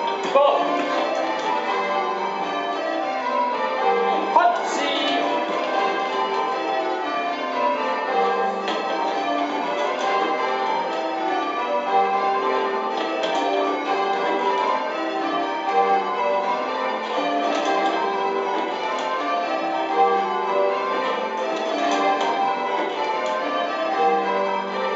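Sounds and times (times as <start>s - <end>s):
church bells ringing: 0.0s - 24.9s.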